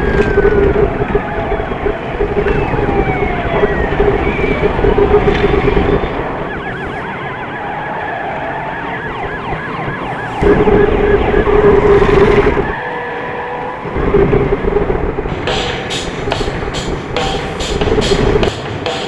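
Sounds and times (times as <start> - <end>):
emergency siren yelp: 0.0 - 15.3.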